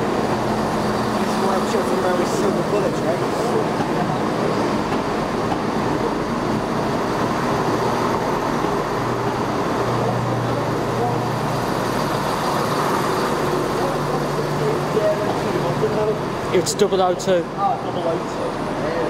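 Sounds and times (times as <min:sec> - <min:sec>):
diesel train moving: 0:00.0 - 0:19.0.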